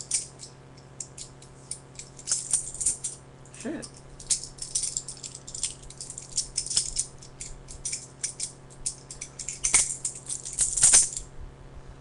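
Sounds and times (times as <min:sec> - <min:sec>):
butterfly knife clicking and rattling: 0:00.0 - 0:03.2, 0:03.9 - 0:11.2.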